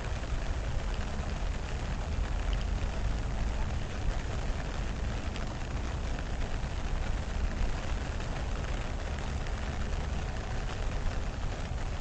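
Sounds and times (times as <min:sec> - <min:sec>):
steady rain on grass and water: 0:00.0 - 0:12.0.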